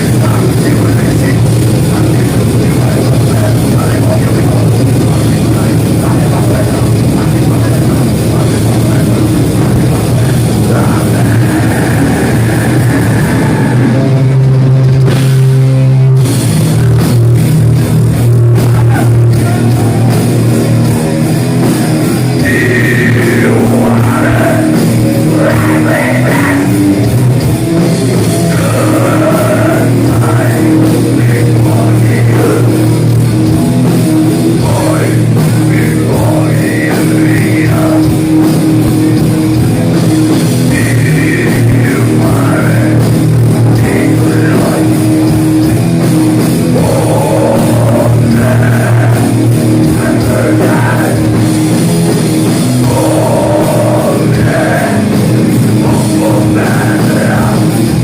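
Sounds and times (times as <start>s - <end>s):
person singing: 0.0s - 14.3s, 18.5s - 27.1s, 27.9s - 33.0s, 34.4s - 38.9s, 40.6s - 58.0s
distorted electric guitar: 0.0s - 58.0s
drum kit: 0.0s - 58.0s.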